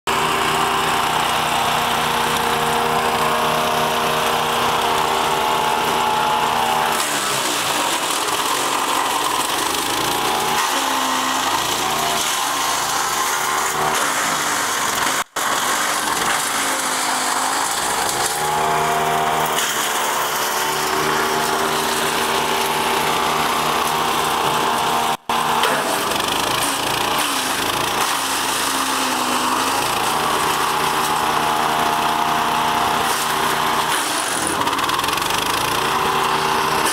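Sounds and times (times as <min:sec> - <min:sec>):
wood chipper engine: 0:00.1 - 0:36.9
wood chipper grinding branches: 0:00.1 - 0:36.9.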